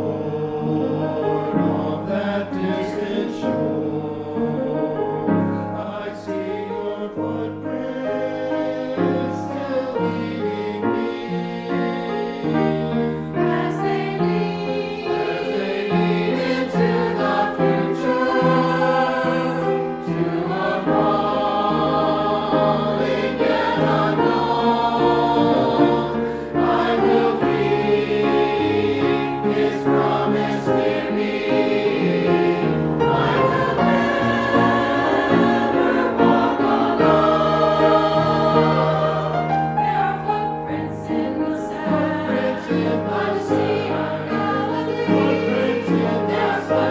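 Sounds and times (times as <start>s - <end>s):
choir singing a hymn: 0.0s - 46.9s
instrumental accompaniment: 0.0s - 46.9s.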